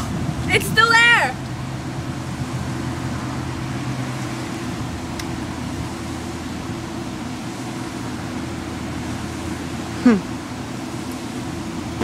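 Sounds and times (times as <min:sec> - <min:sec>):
low outdoor drone: 0:00.0 - 0:12.0.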